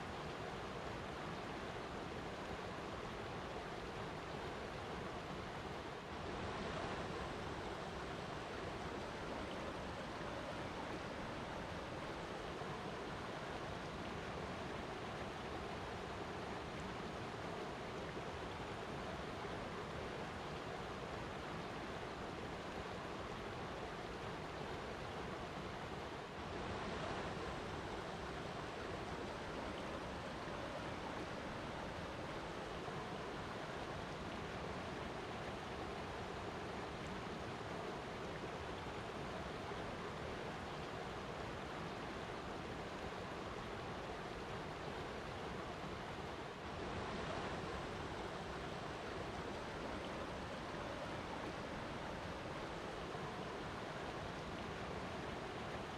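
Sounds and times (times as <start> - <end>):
flowing water rushing: 0.0 - 55.9.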